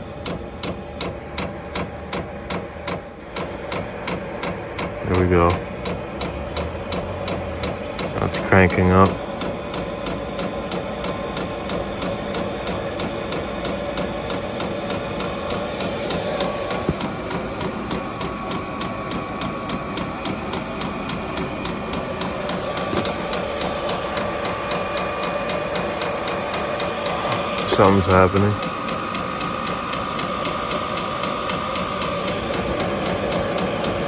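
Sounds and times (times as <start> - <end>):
blower fan whirring: 0.0 - 34.0
pump ticking: 0.0 - 34.0.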